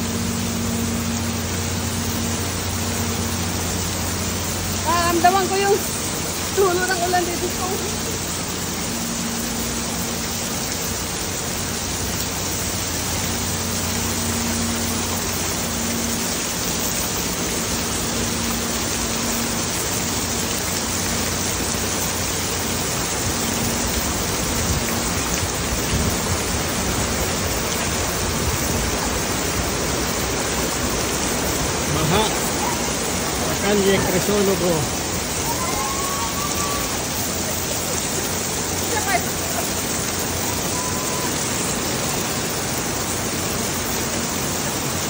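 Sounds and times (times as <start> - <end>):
heavy rain on cobblestones: 0.0 - 45.0.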